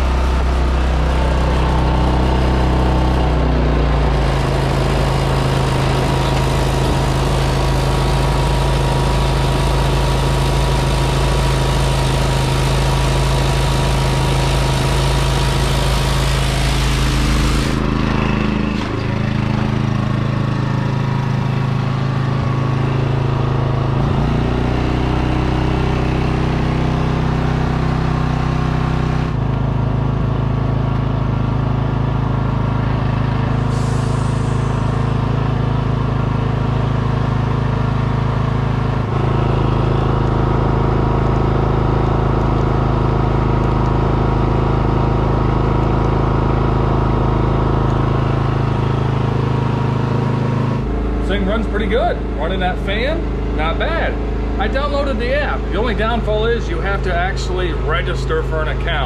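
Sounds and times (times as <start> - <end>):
generator engine running: 0.0 - 59.0.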